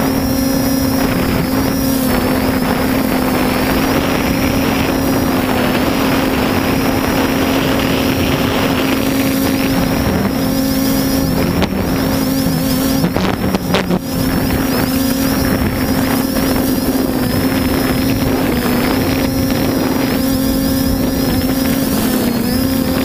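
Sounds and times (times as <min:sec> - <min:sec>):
drone propellers humming: 0:00.0 - 0:23.0
wind buffeting microphone: 0:00.0 - 0:23.0.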